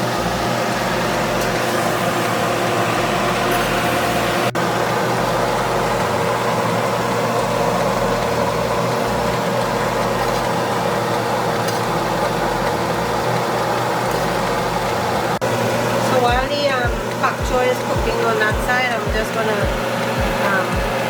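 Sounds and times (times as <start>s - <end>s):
food cooking in hot pot: 0.0s - 17.9s.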